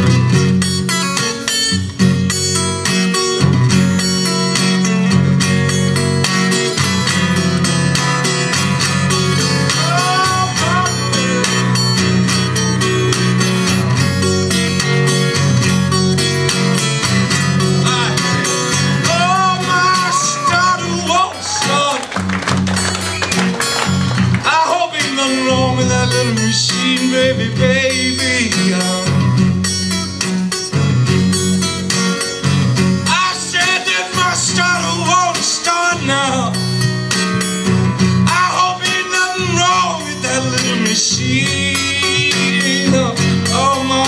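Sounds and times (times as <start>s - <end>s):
fingerstyle acoustic blues guitar: 0.0s - 44.0s.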